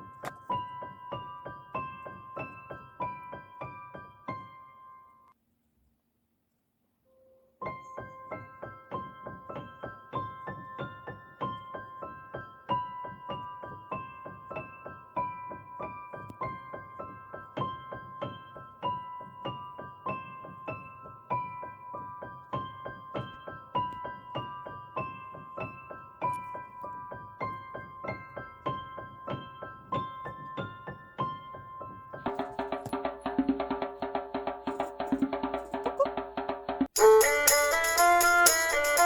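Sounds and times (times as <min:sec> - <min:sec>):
piano music: 0:00.0 - 0:05.2, 0:07.6 - 0:33.8, 0:36.9 - 0:39.0.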